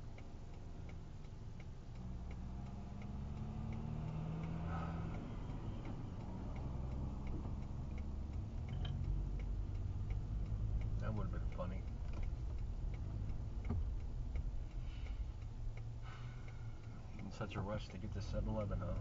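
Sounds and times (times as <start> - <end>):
turn signal clicking: 0.0 - 19.0
truck engine passing: 0.6 - 19.0.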